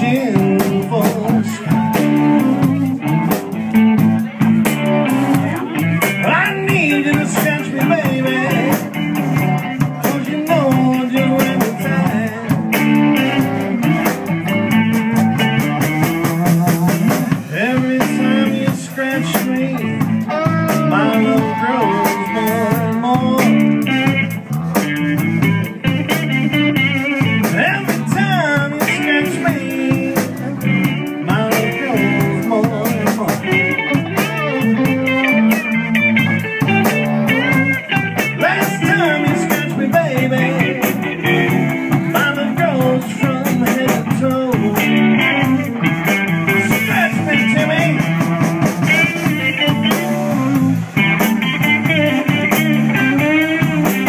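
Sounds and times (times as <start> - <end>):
bending melodic line: 0.0 - 54.0
drum kit: 0.0 - 54.0
electric bass: 0.0 - 54.0
electric guitar: 0.0 - 54.0.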